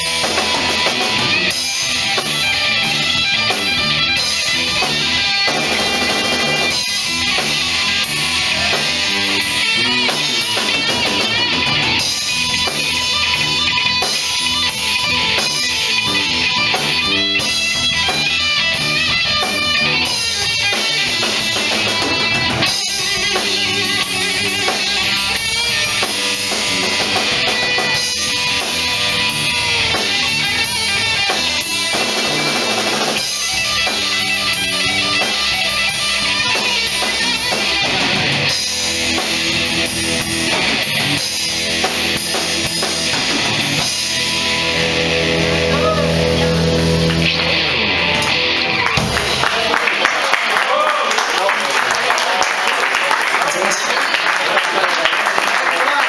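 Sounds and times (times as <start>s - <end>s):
electric guitar playing: 0.0s - 49.8s
drum kit playing: 0.0s - 50.4s.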